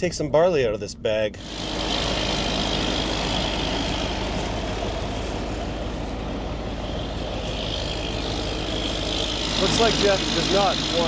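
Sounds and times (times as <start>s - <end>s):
tractor engine humming: 1.4s - 11.0s.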